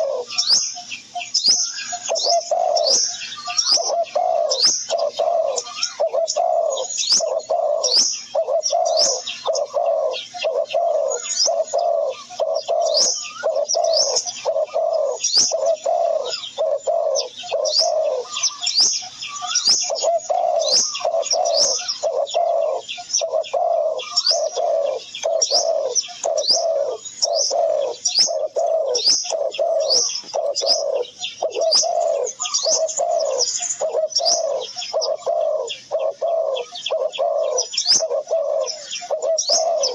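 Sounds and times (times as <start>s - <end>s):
bird cooing: 0.0s - 39.9s
high bird chirps: 0.0s - 39.9s.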